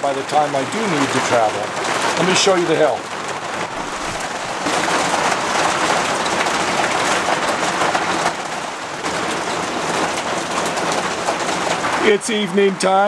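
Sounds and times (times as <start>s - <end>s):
hail and rain on vehicle roof: 0.0s - 13.0s.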